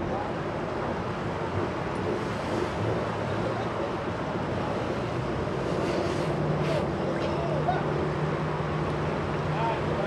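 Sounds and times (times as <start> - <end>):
boat engines humming: 0.3 - 10.0.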